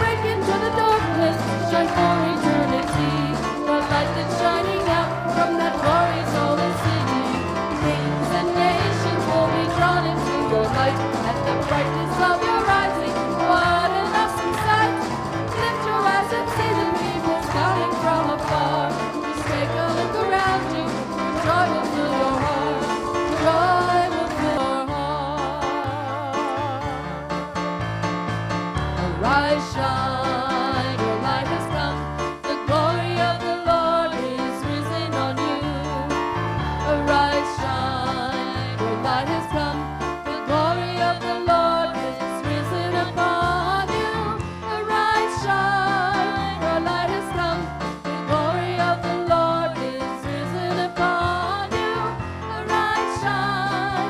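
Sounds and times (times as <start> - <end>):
person singing: 0.0 - 27.8, 29.0 - 54.0
bass line: 0.0 - 54.0
worship band playing: 0.0 - 54.0.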